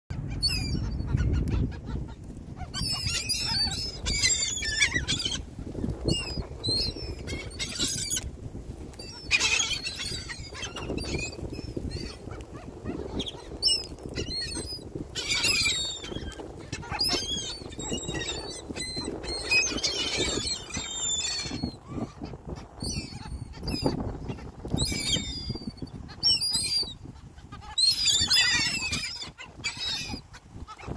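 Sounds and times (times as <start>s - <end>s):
gulls squawking: 0.2s - 8.4s, 9.0s - 30.9s.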